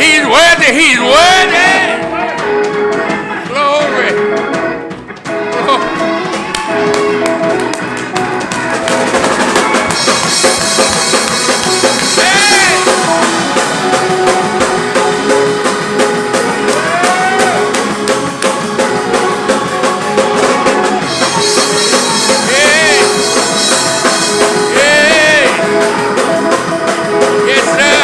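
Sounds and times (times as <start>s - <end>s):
drum kit played fast: 0.0s - 28.0s
held instrumental chords: 0.0s - 28.0s.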